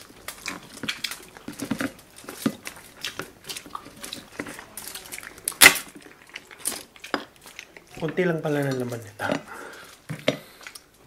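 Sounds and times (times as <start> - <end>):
chewing and smacking: 0.0 - 11.0
shells crackling: 0.0 - 11.0.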